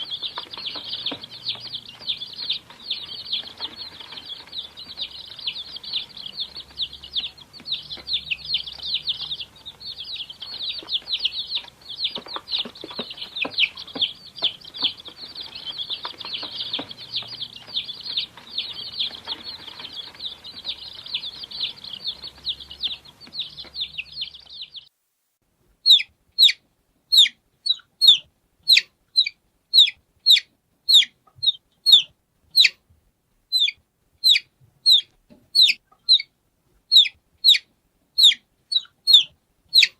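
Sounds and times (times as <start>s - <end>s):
chicks peeping: 0.0s - 24.9s, 25.8s - 32.8s, 33.5s - 39.9s.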